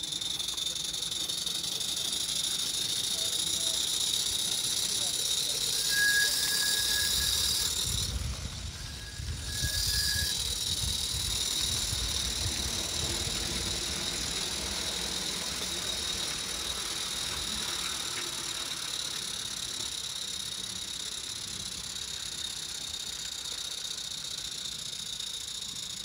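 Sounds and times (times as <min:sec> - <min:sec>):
steam hissing: 0:00.0 - 0:26.0.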